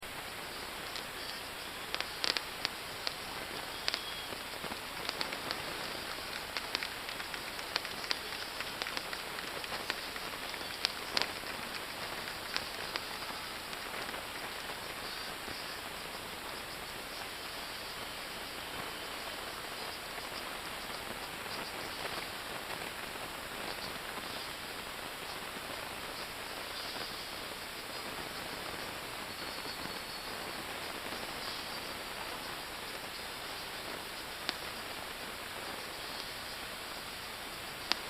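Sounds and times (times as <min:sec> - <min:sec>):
fireworks crackling hiss: 0:00.0 - 0:38.0
fireworks sharp pops: 0:00.0 - 0:38.0.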